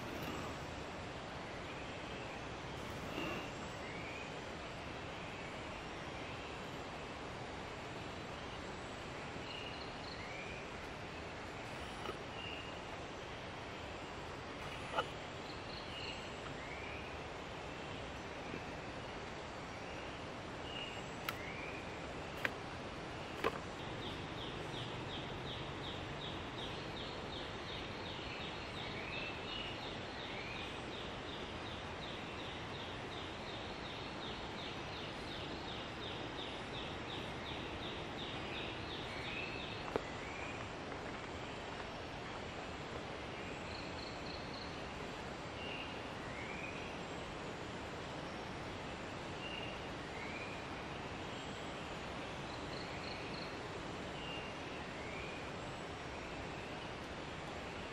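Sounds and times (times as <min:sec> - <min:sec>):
background hiss: 0:00.0 - 0:57.9.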